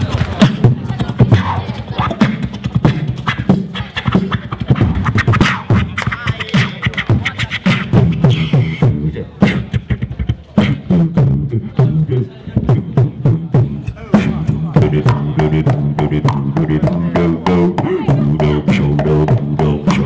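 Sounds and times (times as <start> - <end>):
beatboxing into a microphone: 0.0 - 20.0.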